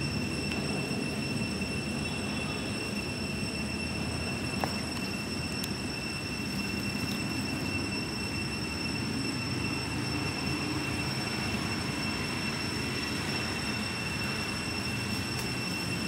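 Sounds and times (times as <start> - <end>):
high-pitched whine: 0.0 - 16.0.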